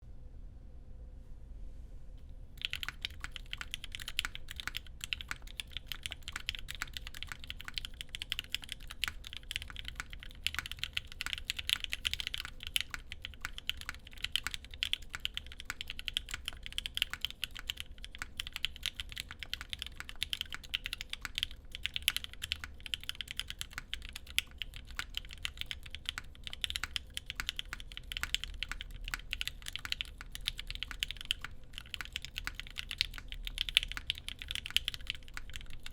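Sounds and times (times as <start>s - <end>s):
fast typing on mechanical keyboard: 2.6s - 35.9s.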